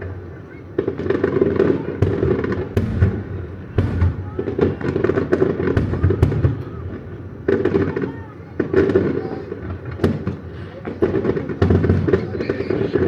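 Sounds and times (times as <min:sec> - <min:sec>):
fireworks rumble and crackle: 0:00.0 - 0:13.0
fireworks bursting: 0:00.7 - 0:13.0.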